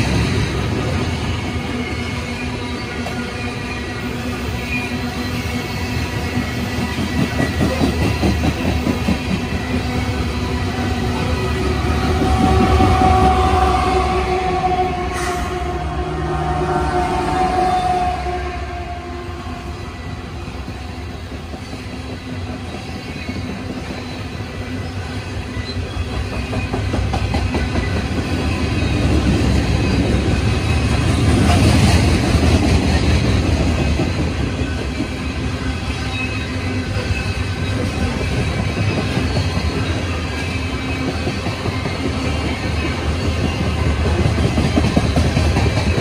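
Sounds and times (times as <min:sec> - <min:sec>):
freight train wheels rumbling on rails: 0:00.0 - 0:46.0.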